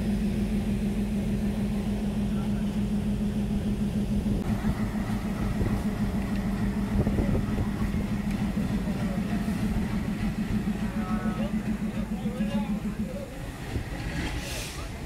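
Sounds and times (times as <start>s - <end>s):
steady low hum: 0.0s - 14.0s
train coaches rolling past: 0.0s - 15.0s.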